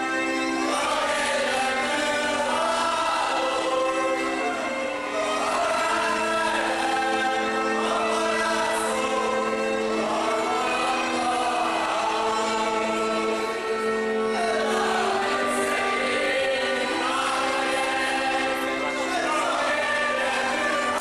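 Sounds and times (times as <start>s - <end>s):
men singing in unison: 0.6s - 21.0s.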